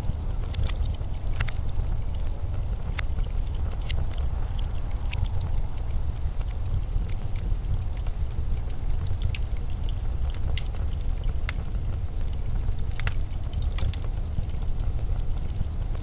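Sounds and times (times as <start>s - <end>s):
blizzard wind rumbling: 0.0s - 13.3s
sharp crackles and ticks: 0.0s - 16.0s.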